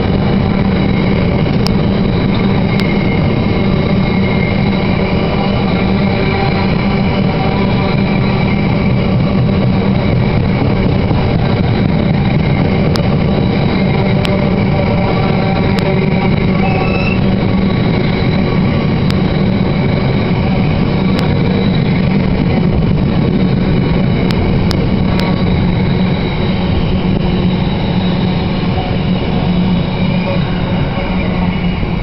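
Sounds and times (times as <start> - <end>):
train wagons rumbling on rails: 0.0 - 32.0.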